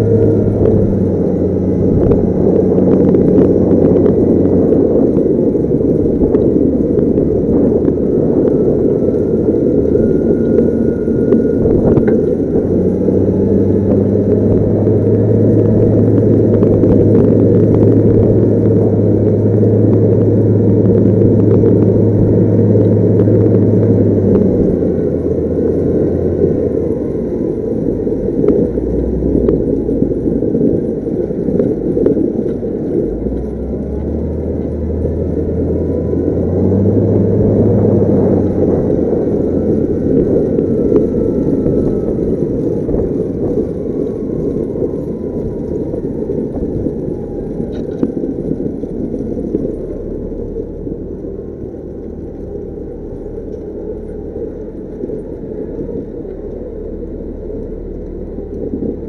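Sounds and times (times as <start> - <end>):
diesel engine revving: 0.0 - 32.0, 32.6 - 59.0.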